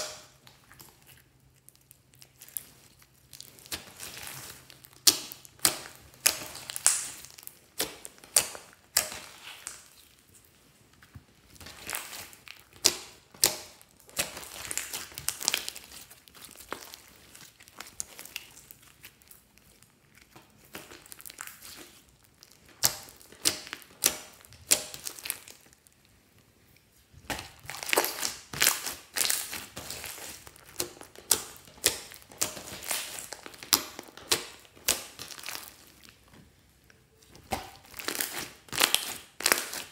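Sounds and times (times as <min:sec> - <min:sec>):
slime squishing with wet clicks: 0:00.0 - 0:39.9.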